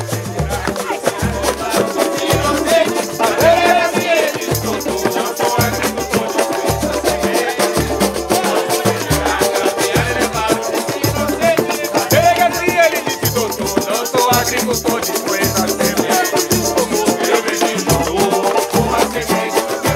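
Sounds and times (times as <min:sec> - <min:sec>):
banjo playing: 0:00.0 - 0:19.9
hand drums beating low pulse: 0:00.0 - 0:19.9
rattling and jingling percussion: 0:00.0 - 0:19.9
voices singing: 0:00.0 - 0:19.9.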